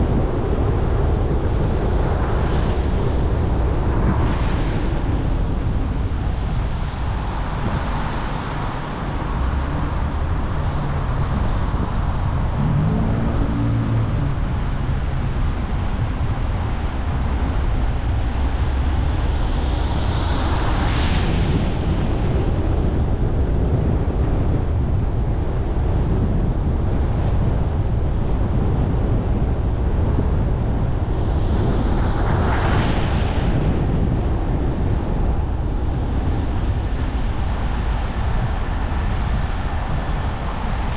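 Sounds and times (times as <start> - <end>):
traffic rumble on wet street: 0.0 - 40.9.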